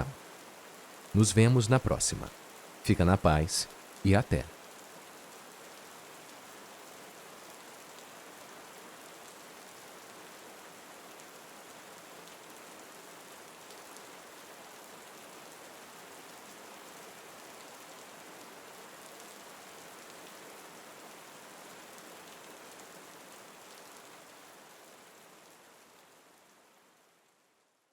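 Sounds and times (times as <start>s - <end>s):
steady rain: 0.0s - 27.9s.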